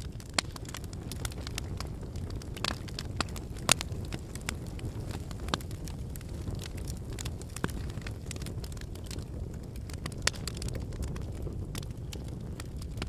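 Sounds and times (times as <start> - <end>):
burning logs crackling and popping: 0.0 - 13.0
low roar of flames: 0.0 - 13.0.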